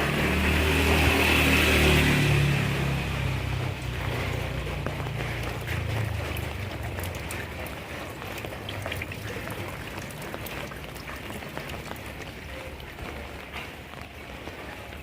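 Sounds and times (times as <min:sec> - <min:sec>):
raindrops ticking on surfaces: 0:00.0 - 0:15.0
steady rain falling: 0:00.0 - 0:15.0.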